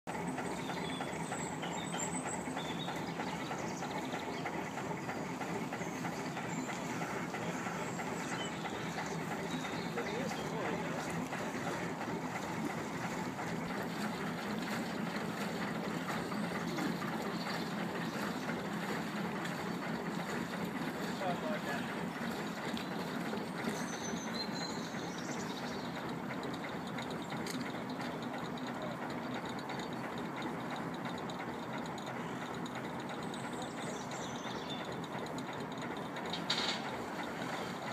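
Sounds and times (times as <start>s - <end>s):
boat engine and paddlewheel clatter: 0.0s - 37.9s.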